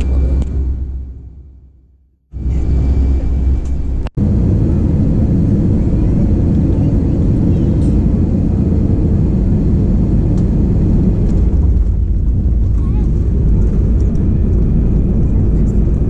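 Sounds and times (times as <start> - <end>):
jet airliner rumble in cabin: 0.0 - 1.7, 2.3 - 16.0.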